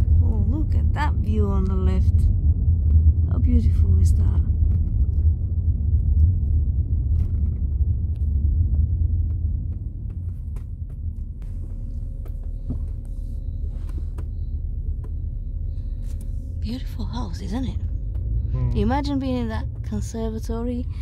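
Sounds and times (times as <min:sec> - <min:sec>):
car cabin rumble: 0:00.0 - 0:21.0.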